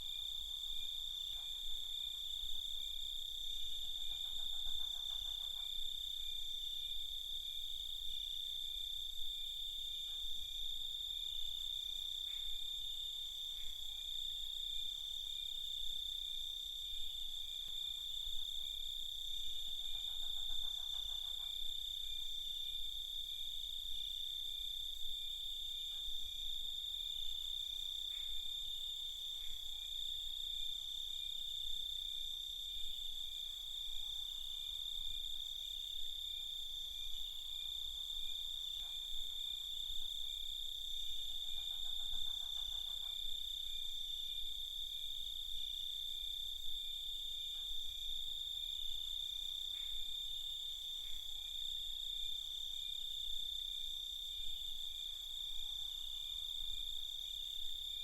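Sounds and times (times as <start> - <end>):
lower pulsing insect call: 0.0 - 58.0.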